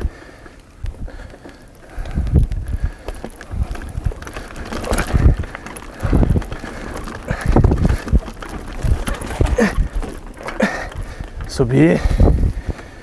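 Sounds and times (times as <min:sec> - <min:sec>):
bike clicking and rattling: 0:00.0 - 0:13.0
bike tyres on dirt: 0:00.0 - 0:13.0
wind noise on microphone: 0:00.0 - 0:13.0.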